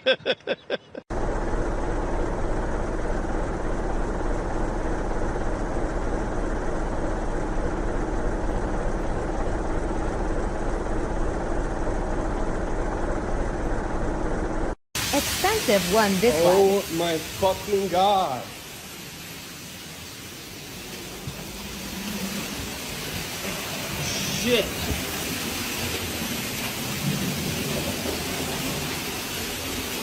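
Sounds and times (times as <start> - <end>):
vehicle engine running: 1.1 - 30.0.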